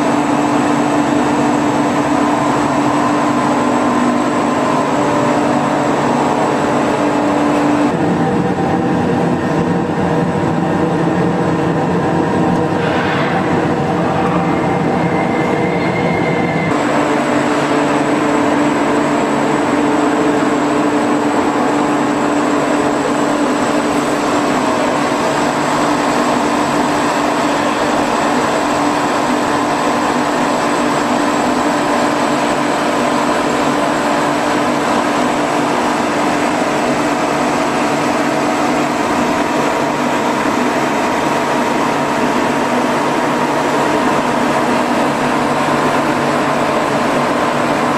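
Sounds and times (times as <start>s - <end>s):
industrial machinery drone: 0.0s - 47.9s
thin high whine: 0.0s - 47.9s.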